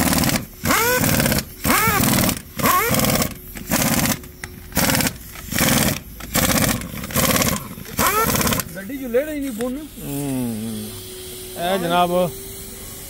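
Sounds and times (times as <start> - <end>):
tyre shop machine bursts: 0.0 - 13.0.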